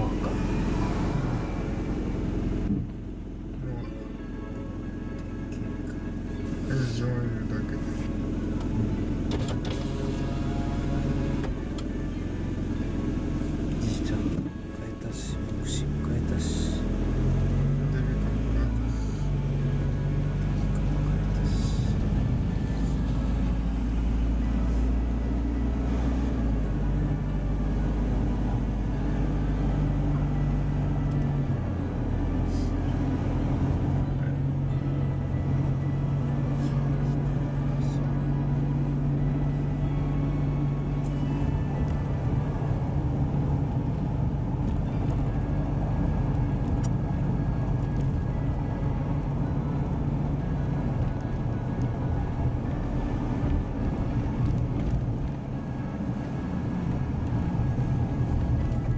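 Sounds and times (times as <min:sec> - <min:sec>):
car engine and road rumble: 0:00.0 - 0:58.9.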